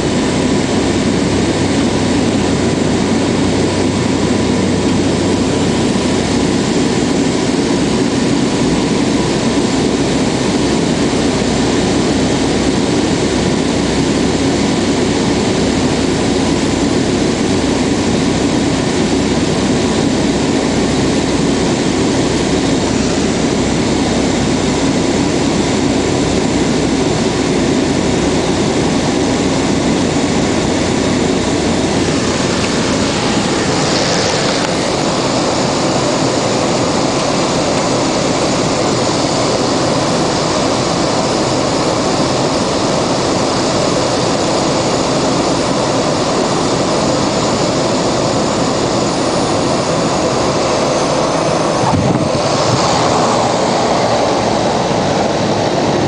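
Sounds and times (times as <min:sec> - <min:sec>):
propeller aircraft engine drone: 0:00.0 - 0:56.0.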